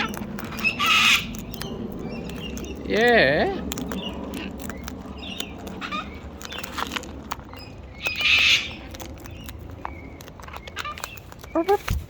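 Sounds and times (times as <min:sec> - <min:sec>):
beak cracking nut shell: 0:00.0 - 0:12.0
parrots chirping: 0:00.0 - 0:12.0.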